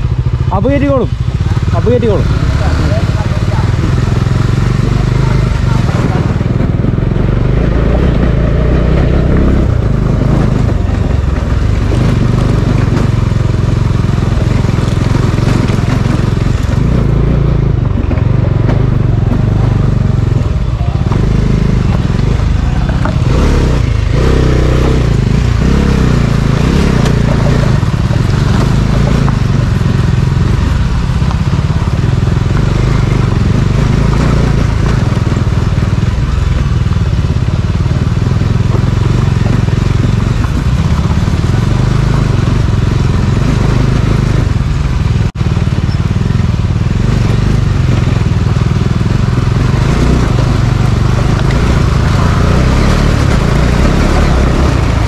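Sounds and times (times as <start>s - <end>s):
heavy low rumble: 0.0s - 55.0s
vehicle engine running: 0.0s - 55.0s.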